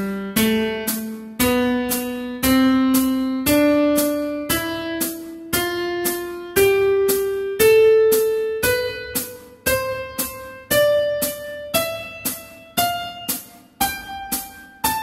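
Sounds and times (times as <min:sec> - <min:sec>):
metronome clicking: 0:00.0 - 0:15.0
piano playing a scale: 0:00.0 - 0:15.0.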